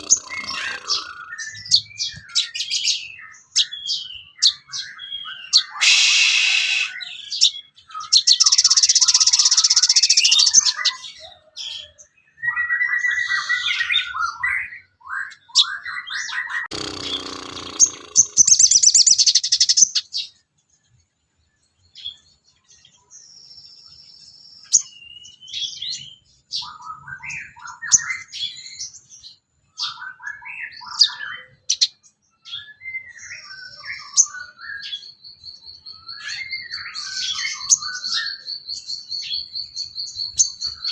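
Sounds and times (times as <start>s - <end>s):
songbird chirps trills and whistles: 0.0s - 16.7s, 17.7s - 40.9s.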